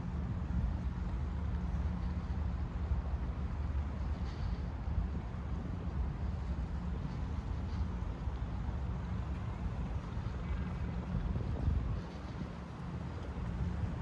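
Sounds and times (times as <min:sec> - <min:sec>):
low city rumble: 0:00.0 - 0:14.0
wind buffeting microphone: 0:00.0 - 0:14.0.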